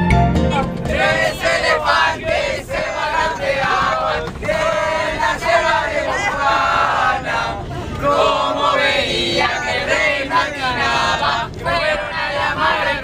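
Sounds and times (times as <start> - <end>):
bus engine and road rumble: 0.0 - 13.0
group singing and chanting: 0.5 - 13.0.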